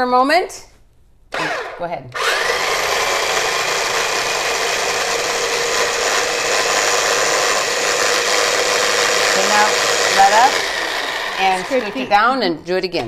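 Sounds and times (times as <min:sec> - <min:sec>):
food processor running: 0:01.4 - 0:12.2.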